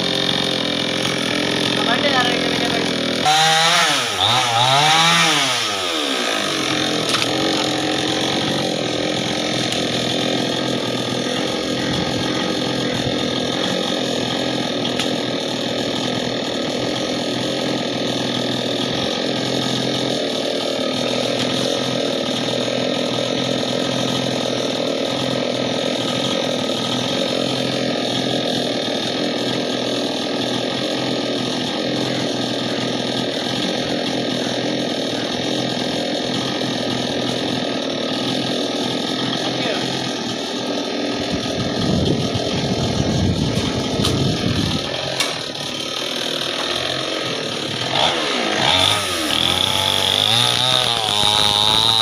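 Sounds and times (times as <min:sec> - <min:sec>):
chainsaw engine idling: 0:00.0 - 0:52.0.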